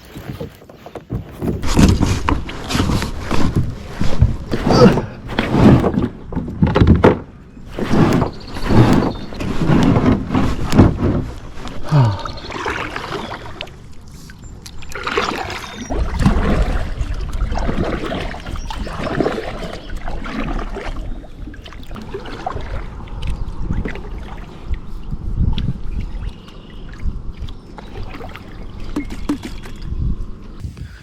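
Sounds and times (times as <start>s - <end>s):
water splashing and trickling: 1.6s - 30.6s.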